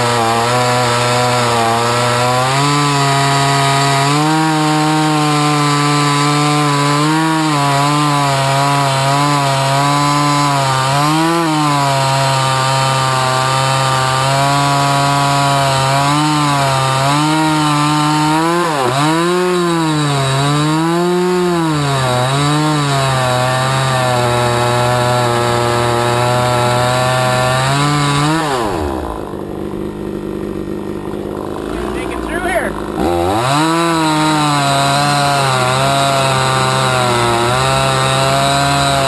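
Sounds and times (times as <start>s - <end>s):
chainsaw cutting log: 0.0s - 39.0s.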